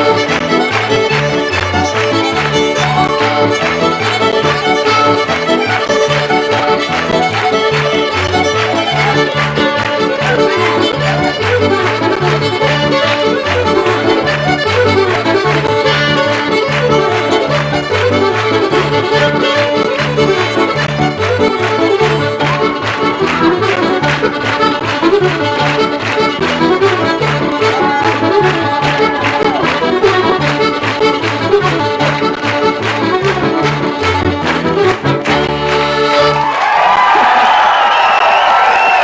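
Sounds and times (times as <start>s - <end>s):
fiddle: 0.0s - 36.8s
accordion: 0.0s - 36.9s.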